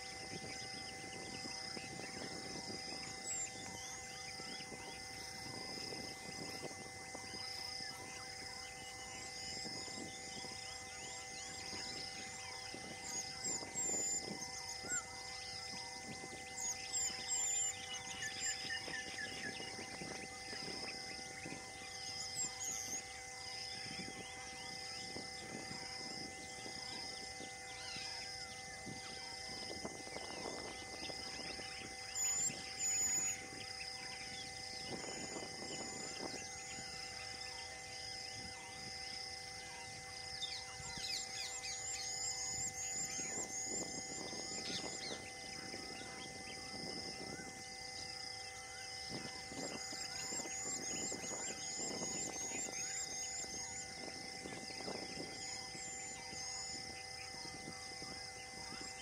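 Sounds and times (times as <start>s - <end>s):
birds chirping: 0.0s - 59.0s
high insect call pulsing: 0.0s - 59.0s.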